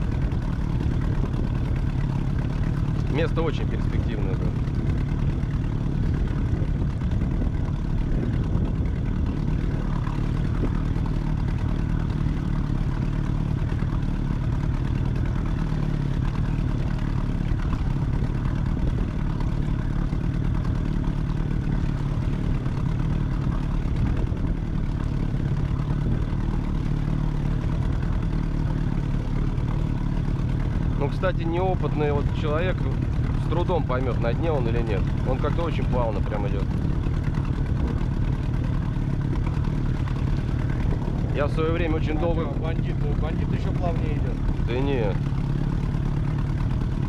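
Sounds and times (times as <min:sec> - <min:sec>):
outboard motor droning: 0:00.0 - 0:47.0.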